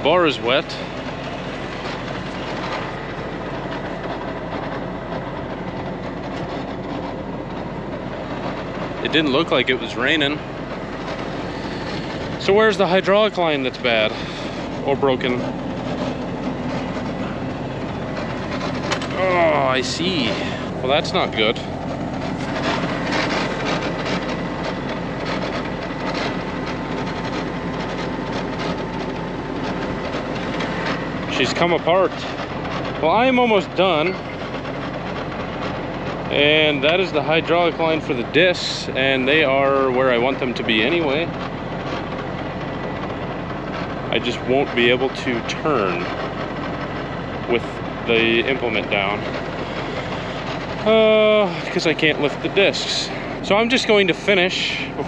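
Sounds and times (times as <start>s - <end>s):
clattering and rattling: 0.0s - 55.0s
tractor engine running: 0.0s - 55.0s.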